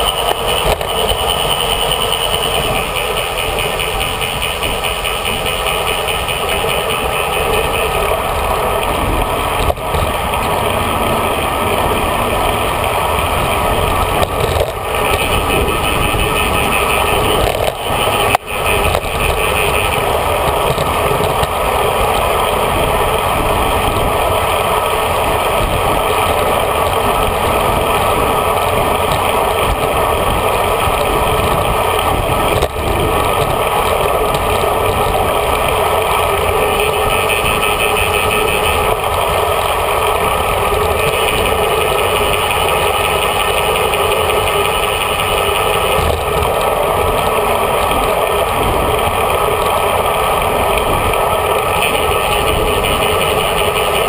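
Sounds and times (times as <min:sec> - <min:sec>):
road noise: 0:00.0 - 0:54.0
rushing wind: 0:00.0 - 0:54.0.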